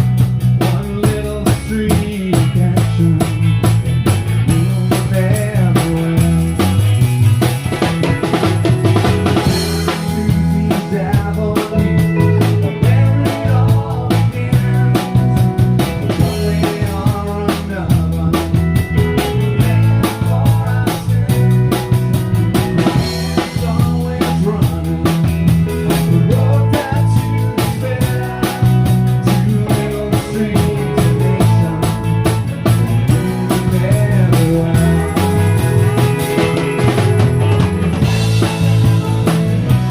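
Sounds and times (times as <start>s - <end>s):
bass guitar line: 0.0s - 39.9s
drum kit beat: 0.0s - 39.9s.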